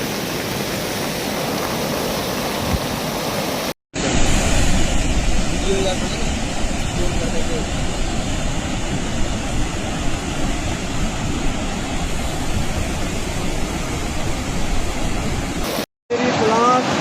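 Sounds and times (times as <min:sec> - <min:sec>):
floodwater roaring: 0:00.0 - 0:17.0.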